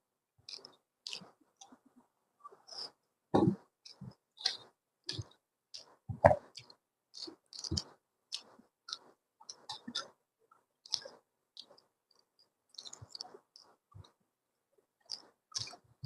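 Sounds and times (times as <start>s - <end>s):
person chewing with wet smacks: 0.4s - 1.8s, 2.7s - 10.2s, 10.8s - 14.2s, 15.0s - 15.8s.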